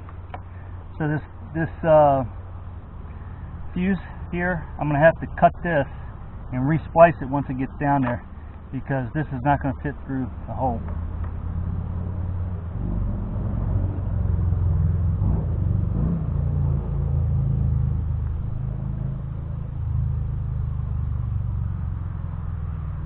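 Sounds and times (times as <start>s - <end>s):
engine rumbling: 0.0s - 23.0s.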